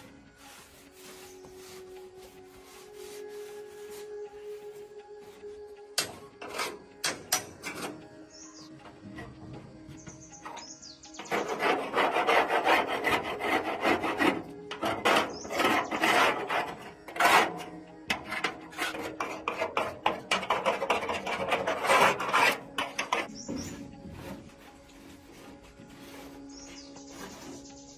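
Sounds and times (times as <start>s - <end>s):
hand abrasive rasping: 0.0s - 8.1s, 10.0s - 27.9s.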